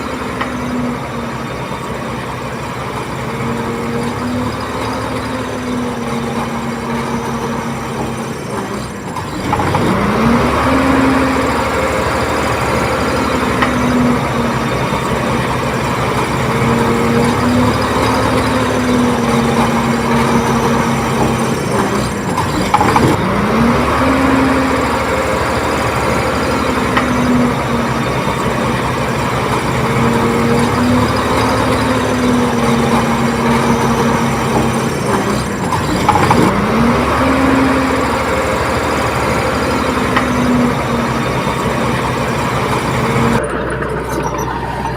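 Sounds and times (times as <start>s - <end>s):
bulldozer diesel engine revving: 0.0s - 44.9s.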